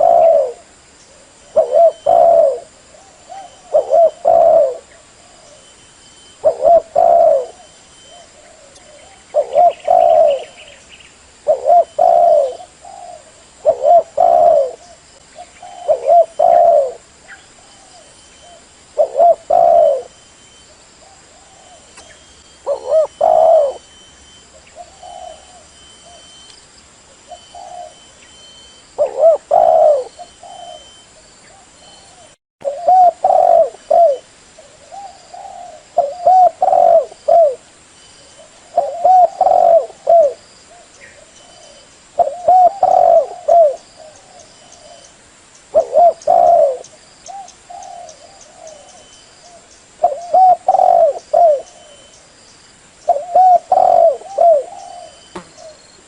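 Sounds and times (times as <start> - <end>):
dove cooing: 0.0 - 10.8, 11.4 - 20.2, 21.0 - 26.4, 27.2 - 37.6, 38.2 - 45.1, 45.7 - 52.2, 53.0 - 55.8.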